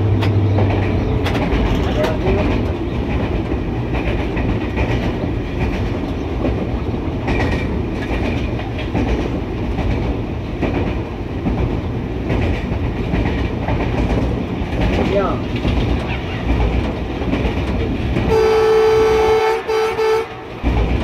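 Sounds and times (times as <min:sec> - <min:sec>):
wheels clicking over rail joints: 0:00.0 - 0:18.6, 0:20.3 - 0:21.0
locomotive engine running: 0:00.0 - 0:21.0.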